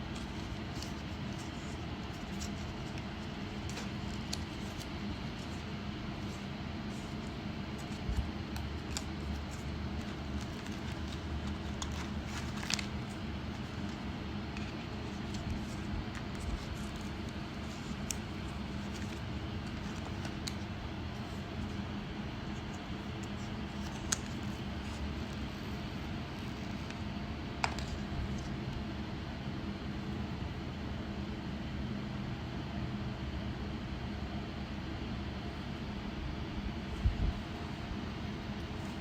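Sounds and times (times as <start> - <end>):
background hiss and hum: 0.0 - 39.0.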